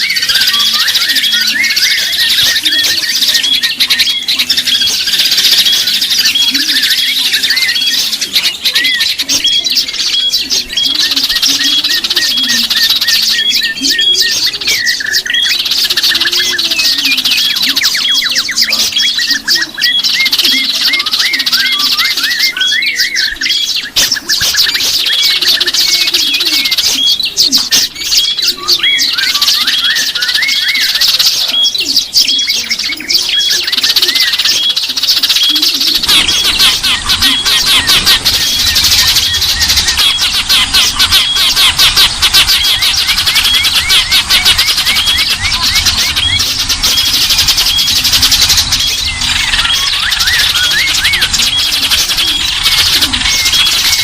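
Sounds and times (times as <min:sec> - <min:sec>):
lower bird calls: 0:00.0 - 0:54.0
songbirds chirping and twittering: 0:00.0 - 0:54.0.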